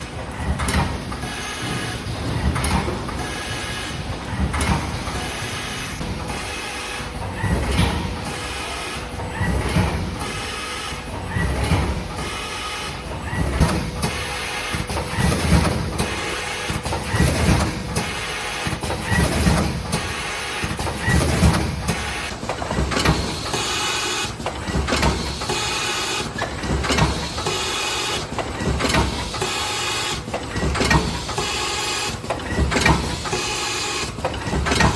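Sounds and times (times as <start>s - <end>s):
packaging machine thumps and clicks: 0.4s - 5.3s, 7.4s - 8.4s, 9.2s - 10.4s, 11.3s - 12.2s, 13.3s - 34.9s.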